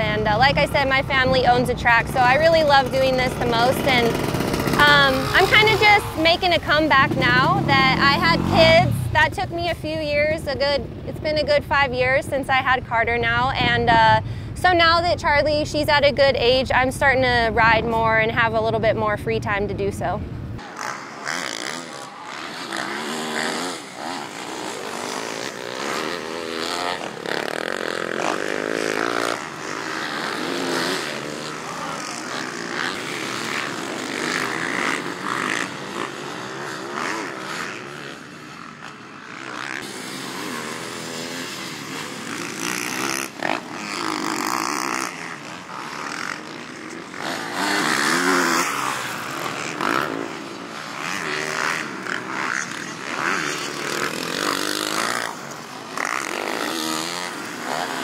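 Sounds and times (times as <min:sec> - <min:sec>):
dirt bike engine revving: 0:00.0 - 0:16.0, 0:20.4 - 0:58.0.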